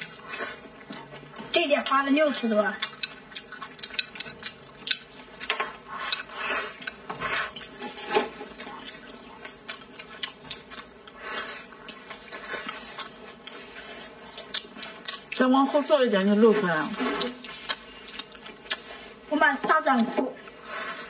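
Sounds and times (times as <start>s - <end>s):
wet chewing and smacking: 0.0s - 19.3s.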